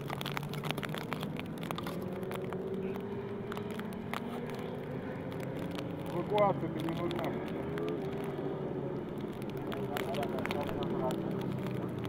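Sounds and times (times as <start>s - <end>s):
light engine crackles: 0.0s - 12.0s.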